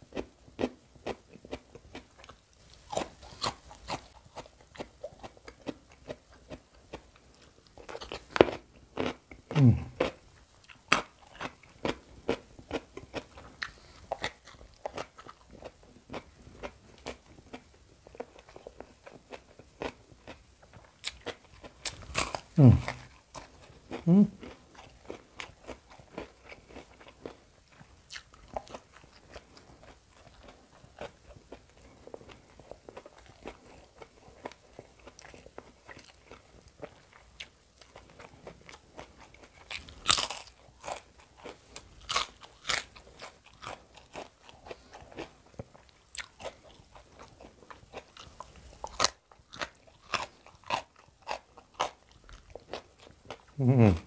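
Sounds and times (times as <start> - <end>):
person crunching food: 0.1 - 54.0.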